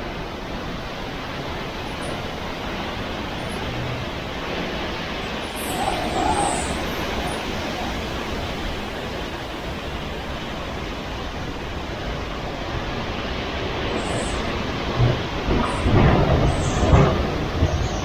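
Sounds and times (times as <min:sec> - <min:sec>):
hurricane wind and rain: 0:00.0 - 0:18.0.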